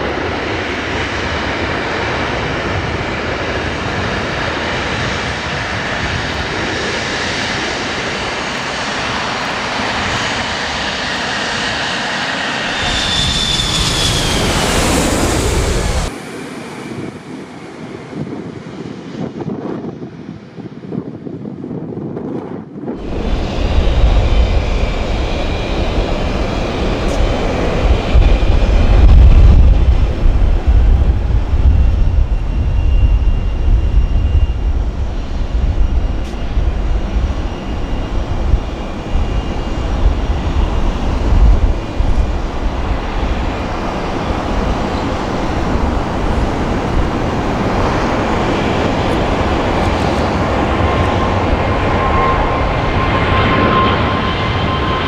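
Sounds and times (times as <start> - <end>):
high jet whine: 0.0 - 18.6, 22.9 - 55.0
jet engines rumbling: 0.0 - 19.2, 22.9 - 55.0.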